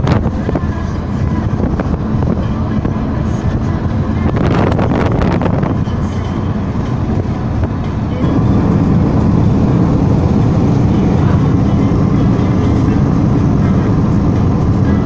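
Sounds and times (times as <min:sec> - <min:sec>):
low rumble of moving vehicle: 0:00.0 - 0:15.0.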